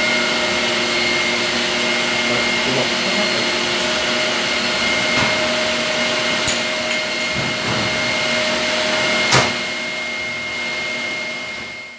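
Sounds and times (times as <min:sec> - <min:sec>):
ventilation blower whirring: 0:00.0 - 0:11.9.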